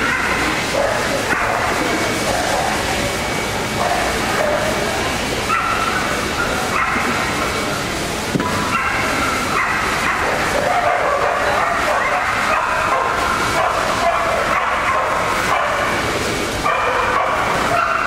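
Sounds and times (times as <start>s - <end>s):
dogs barking and yipping: 0.0s - 2.8s, 3.8s - 7.4s, 8.5s - 18.0s
din of a busy hall: 0.0s - 18.0s.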